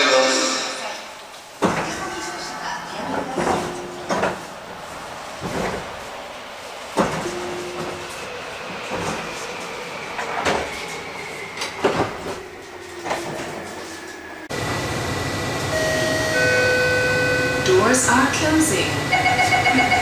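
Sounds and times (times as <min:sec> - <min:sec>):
train sliding doors closing: 0:00.0 - 0:20.0.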